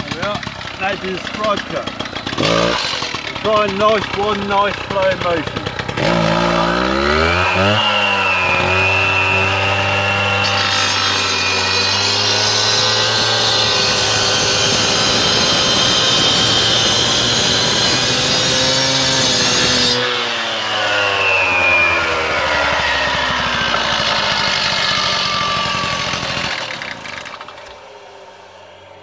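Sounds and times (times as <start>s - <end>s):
disc cutter engine revving: 0.0s - 27.8s
blade grinding stone: 0.3s - 27.8s.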